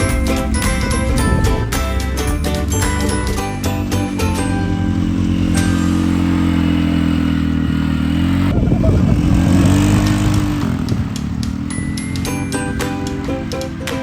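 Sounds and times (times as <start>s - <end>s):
small vehicle engine revving: 0.0s - 14.0s.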